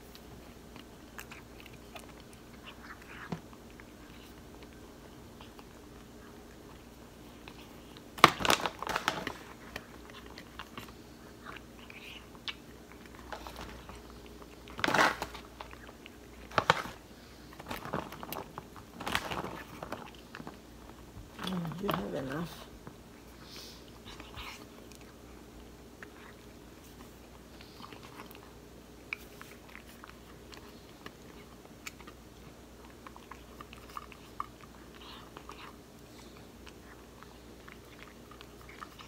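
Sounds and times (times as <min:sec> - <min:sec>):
cat chewing food: 0:00.0 - 0:39.0.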